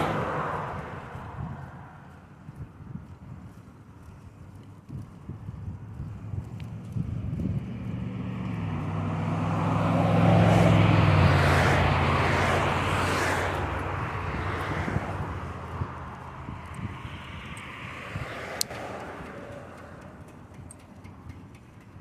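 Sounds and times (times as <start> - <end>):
vehicle passing by: 0.0 - 2.6, 5.6 - 21.0.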